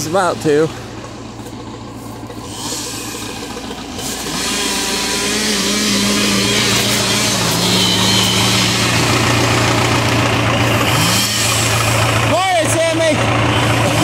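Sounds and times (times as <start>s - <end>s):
log skidder engine running: 0.0s - 14.0s.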